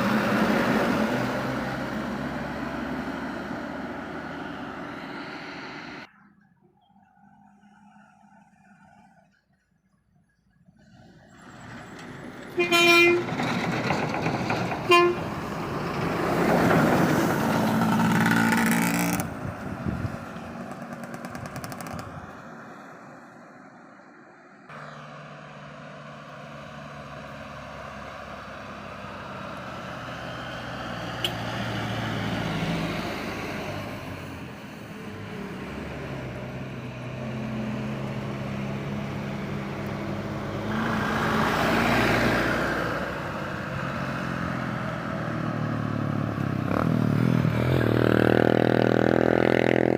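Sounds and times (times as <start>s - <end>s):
heavy vehicles driving past: 0.0s - 9.5s, 10.8s - 49.9s.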